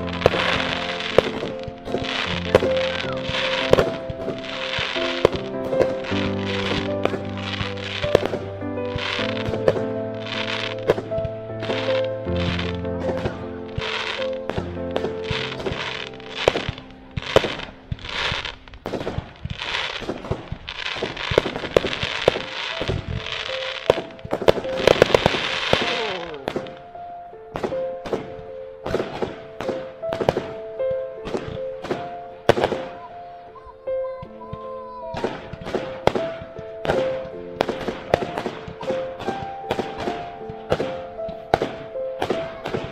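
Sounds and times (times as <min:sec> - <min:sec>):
firework bangs: 0:00.0 - 0:33.1, 0:34.2 - 0:42.9
background music with sustained tones: 0:00.0 - 0:42.9
firework crackling: 0:00.0 - 0:42.9.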